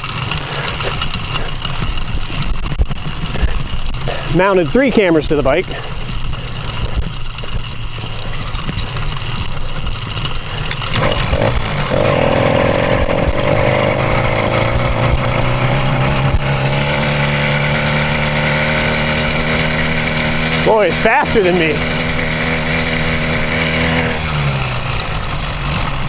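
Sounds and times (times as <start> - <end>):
two-stroke engine running: 0.0 - 26.0.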